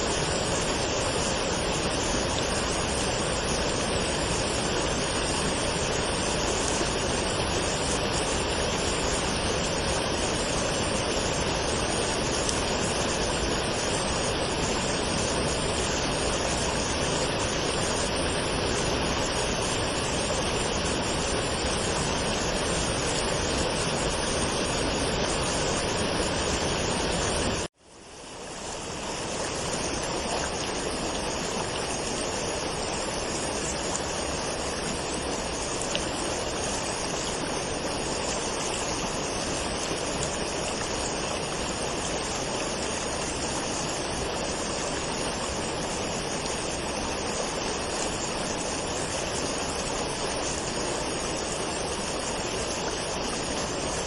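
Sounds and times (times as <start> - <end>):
waterfall roaring: 0.0 - 27.7, 28.3 - 54.0.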